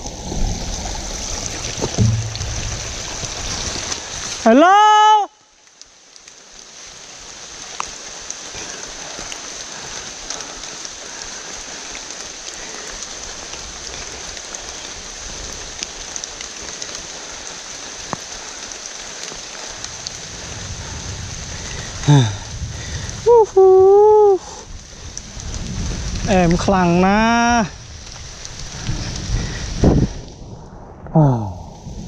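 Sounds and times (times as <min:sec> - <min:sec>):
rain falling on foliage: 0:00.0 - 0:32.0.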